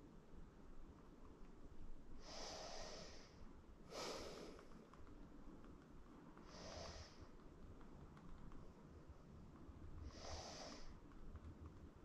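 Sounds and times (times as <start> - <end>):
faint hissing breaths: 2.0 - 12.0.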